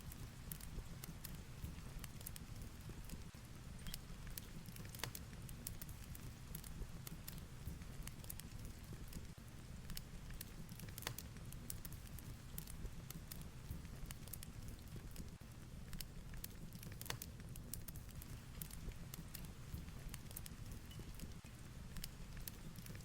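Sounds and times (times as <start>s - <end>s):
fireplace crackling and popping: 0.0s - 23.0s.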